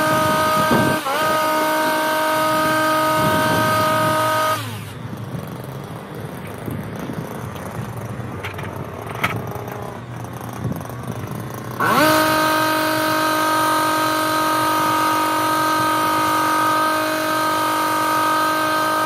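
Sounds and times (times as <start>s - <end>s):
hedge trimmer engine revving: 0.0s - 19.0s.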